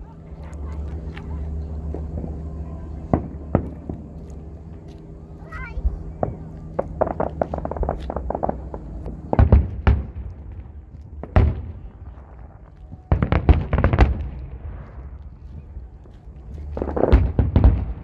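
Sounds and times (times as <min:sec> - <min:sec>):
fireworks crackling: 0:00.0 - 0:18.0
fireworks booming: 0:00.2 - 0:18.0.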